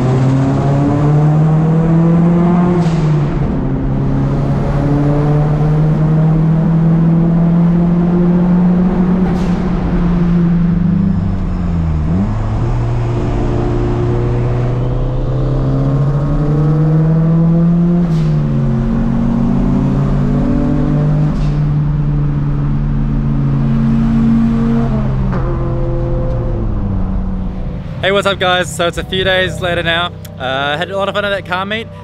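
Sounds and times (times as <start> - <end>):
car engine from inside cabin: 0.0 - 32.0.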